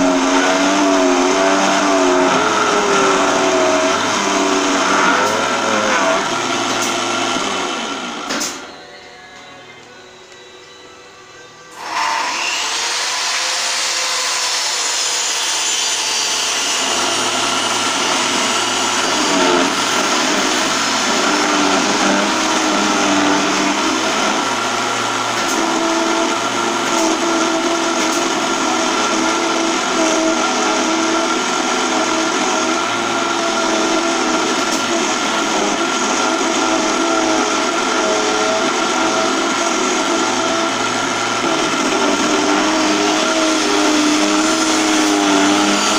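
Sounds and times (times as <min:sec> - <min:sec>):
lathe motor whine: 0:00.0 - 0:45.9.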